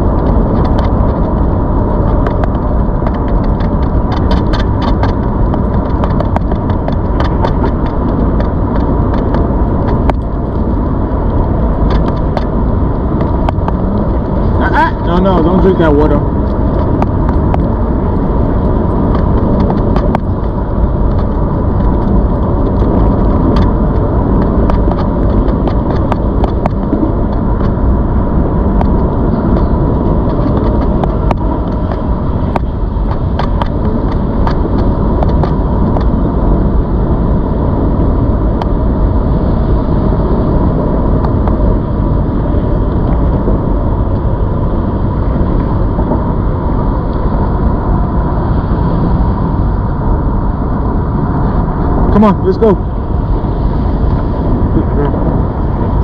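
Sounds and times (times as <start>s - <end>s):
electric bike rolling noise: 0.0s - 56.0s
thin steady whine: 0.0s - 56.0s
wind rush: 0.0s - 56.0s.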